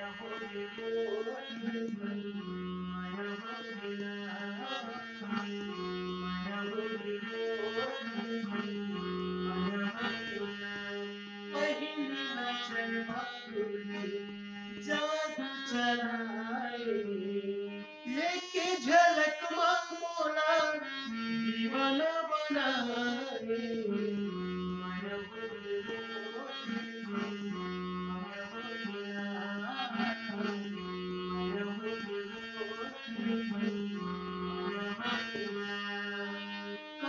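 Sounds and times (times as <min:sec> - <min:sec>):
man singing: 0:00.0 - 0:10.8, 0:11.5 - 0:30.8
harmonium chords: 0:00.0 - 0:37.0.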